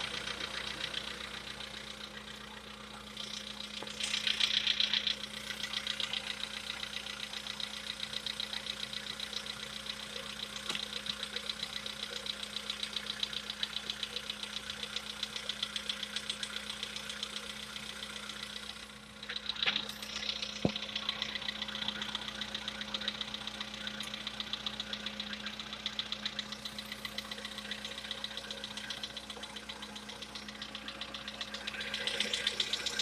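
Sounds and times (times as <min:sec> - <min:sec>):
car engine knocking: 0:00.0 - 0:33.0.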